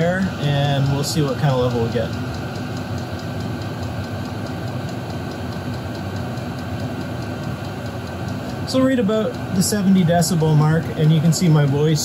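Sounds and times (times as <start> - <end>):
fuel pump fast ticking: 0.0 - 12.0
heater fan blowing air: 0.0 - 12.0.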